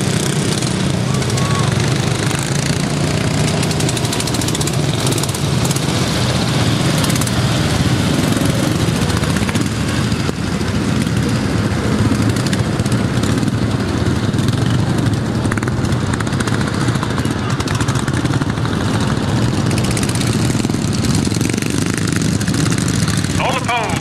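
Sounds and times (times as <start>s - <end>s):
racing lawn mower engines: 0.0s - 24.0s.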